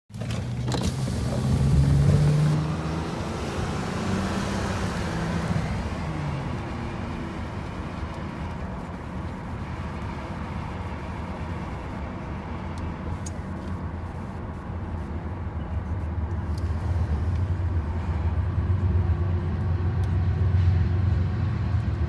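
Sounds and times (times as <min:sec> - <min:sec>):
car engine low hum: 0:00.1 - 0:22.0.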